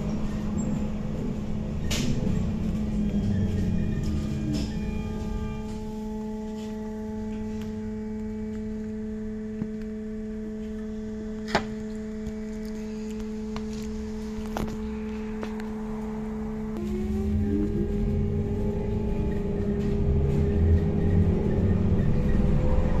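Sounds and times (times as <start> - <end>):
electrical equipment hum: 0.0 - 23.0
low rumble: 0.0 - 23.0.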